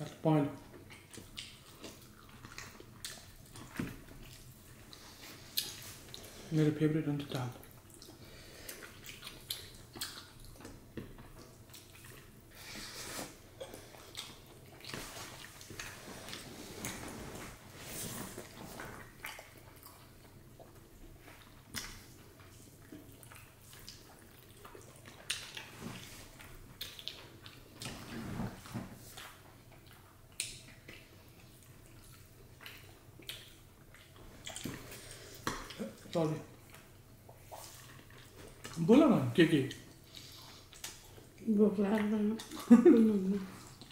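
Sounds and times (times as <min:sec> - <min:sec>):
wet chewing: 0:00.7 - 0:06.4, 0:07.2 - 0:17.4, 0:18.4 - 0:28.2, 0:29.1 - 0:38.8, 0:39.7 - 0:43.9.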